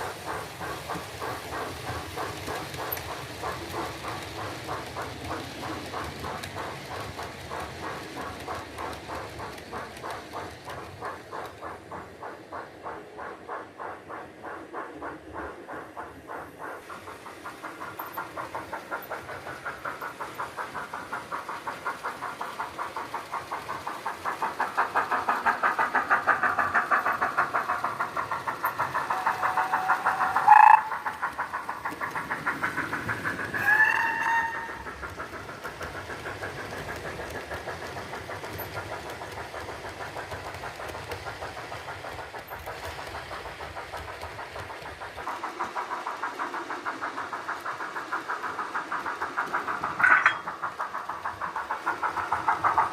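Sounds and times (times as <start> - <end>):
steam locomotive chuffing: 0.0 - 52.9.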